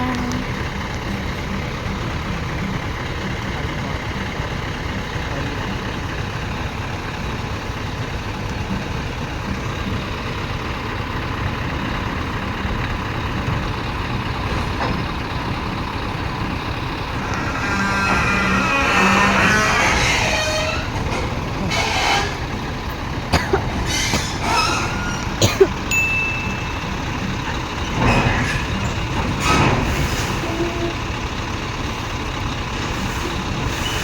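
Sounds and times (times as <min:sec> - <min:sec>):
heavy vehicle rumbling: 0:00.0 - 0:34.0.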